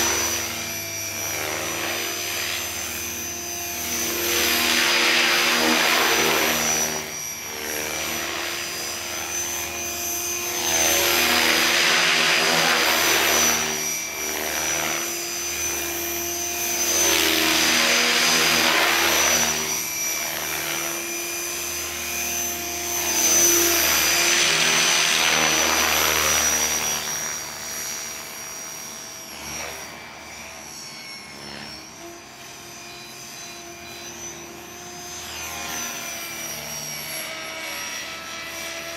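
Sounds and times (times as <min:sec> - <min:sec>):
rc helicopter motor whine: 0:00.0 - 0:38.9
rotor blades rushing: 0:00.0 - 0:38.9.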